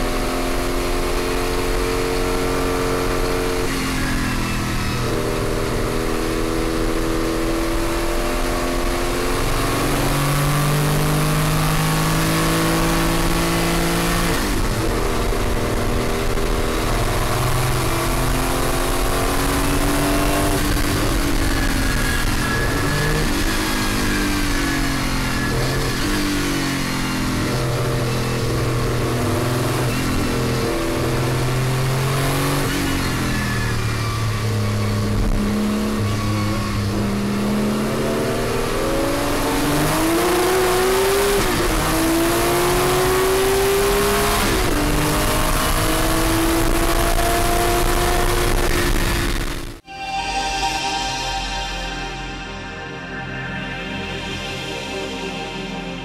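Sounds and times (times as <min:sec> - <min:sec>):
race car engine revving: 0:00.0 - 0:49.8.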